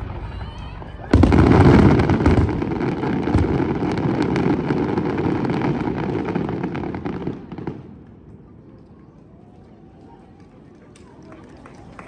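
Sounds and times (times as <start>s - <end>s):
fireworks crackling and popping: 0.0s - 11.2s.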